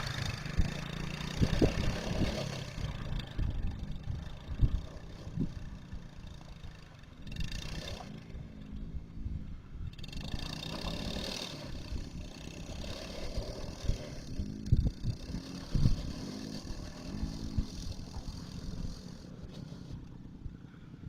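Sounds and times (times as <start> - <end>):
small atv engine revving: 0.0 - 20.2.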